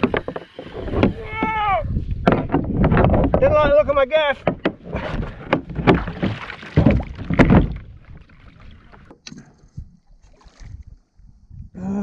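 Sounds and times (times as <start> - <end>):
water lapping against kayak hull: 0.0 - 3.5, 4.4 - 11.3.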